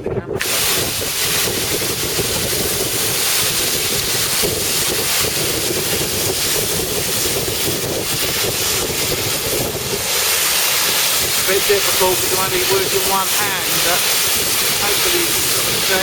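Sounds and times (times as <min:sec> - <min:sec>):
pressure washer running: 0:00.4 - 0:16.0
water jet hissing against wall: 0:00.4 - 0:16.0.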